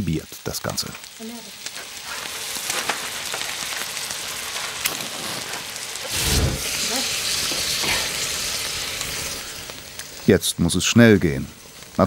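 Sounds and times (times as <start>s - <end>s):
chicken sizzling in a pot: 0.0s - 12.0s
flambe whoosh: 1.6s - 12.0s.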